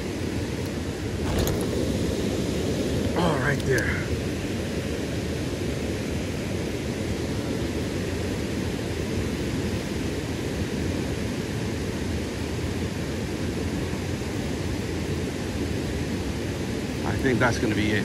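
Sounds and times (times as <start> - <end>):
river rushing over riffles: 0.0 - 18.0.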